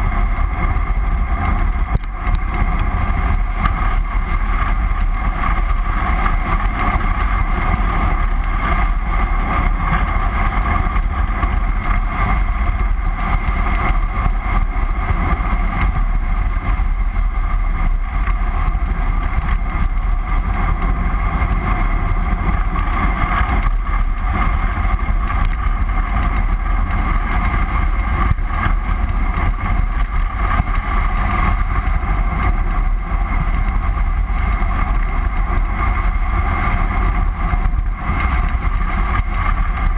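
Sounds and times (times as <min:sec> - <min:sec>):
bicycle rolling on asphalt: 0:00.0 - 0:39.9.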